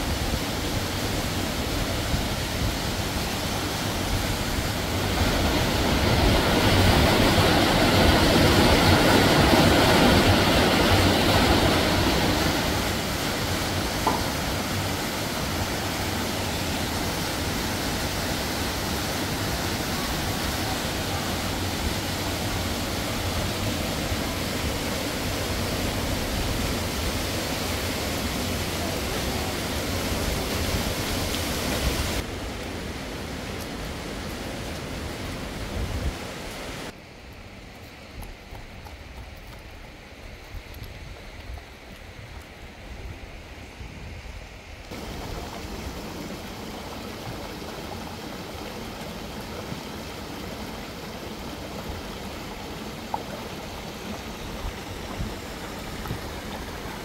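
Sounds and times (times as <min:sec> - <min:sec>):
waterfall splashing into pool: 0:00.0 - 0:37.0, 0:44.9 - 0:57.0.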